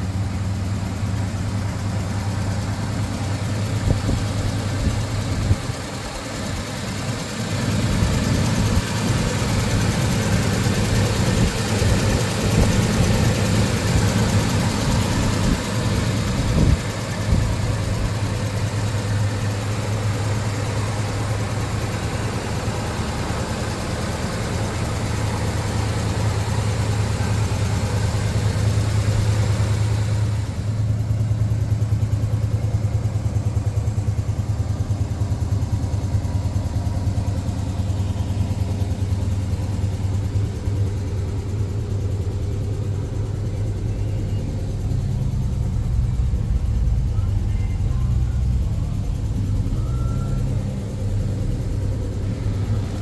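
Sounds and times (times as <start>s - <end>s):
car engine running: 0.0s - 53.0s.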